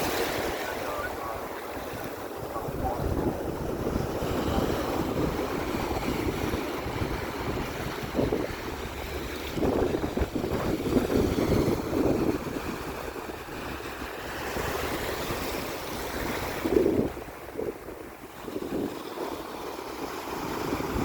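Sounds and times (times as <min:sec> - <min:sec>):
sea waves washing in: 0:00.0 - 0:21.0
wind rumbling on microphone: 0:00.0 - 0:21.0.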